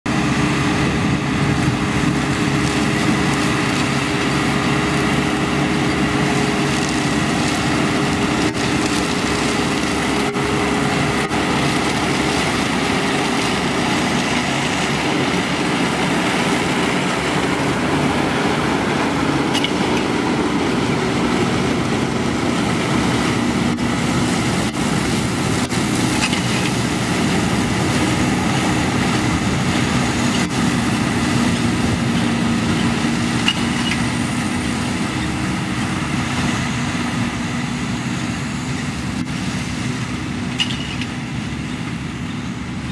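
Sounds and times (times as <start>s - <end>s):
tractor and baler running: 0.0s - 42.9s.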